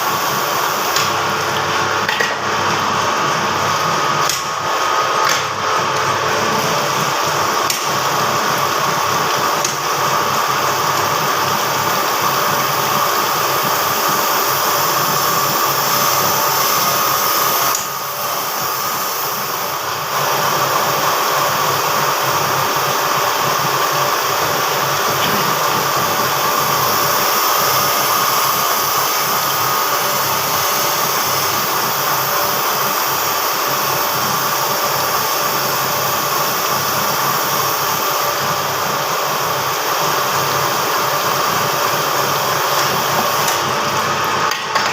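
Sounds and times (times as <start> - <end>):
grinding machine whine: 0.0 - 44.9.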